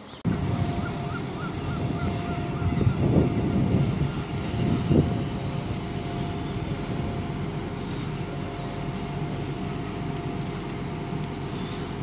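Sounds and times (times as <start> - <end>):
diesel train engines running: 0.0 - 12.0.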